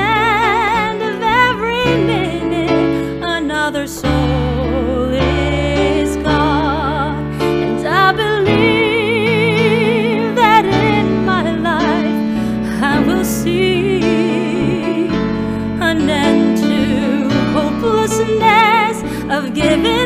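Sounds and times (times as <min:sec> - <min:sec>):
instrumental backing track: 0:00.0 - 0:20.0
woman singing a slow ballad: 0:00.0 - 0:20.0.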